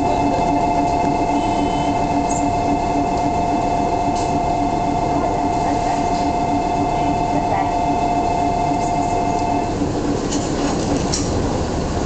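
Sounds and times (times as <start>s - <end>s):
pulsing low hum: 0.0s - 12.0s
train equipment whine: 0.0s - 12.0s.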